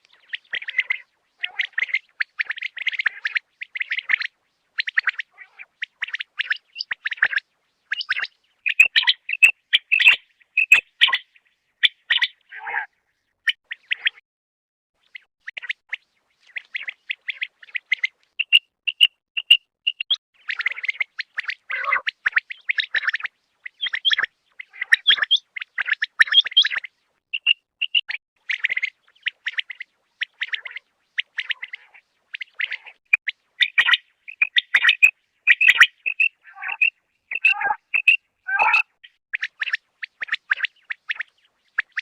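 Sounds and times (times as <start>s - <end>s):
quail calling: 0.0s - 12.9s, 16.5s - 42.0s.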